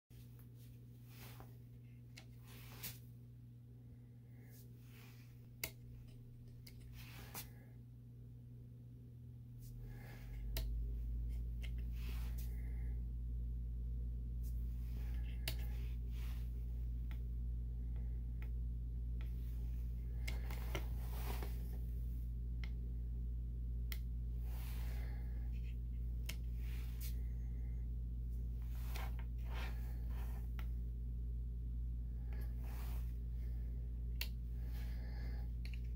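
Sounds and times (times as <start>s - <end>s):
faint low hum: 0.2s - 35.9s.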